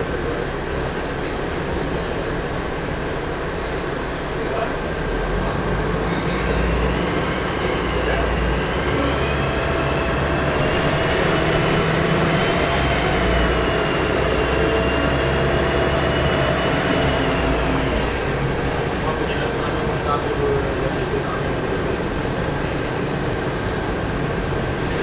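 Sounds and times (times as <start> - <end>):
diesel engine low drone: 0.0 - 25.0.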